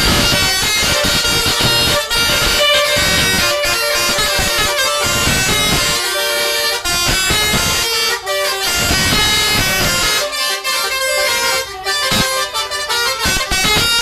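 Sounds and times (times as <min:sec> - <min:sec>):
bus horn playing a melody: 0:00.0 - 0:14.0.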